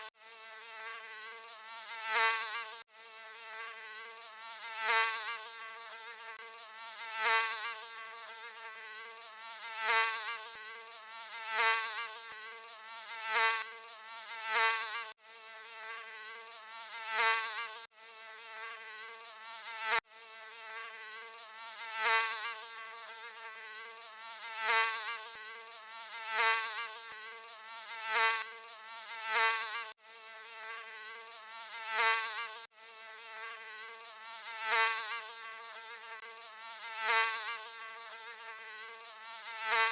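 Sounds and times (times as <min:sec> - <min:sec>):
mosquito buzzing: 0:00.0 - 0:39.9.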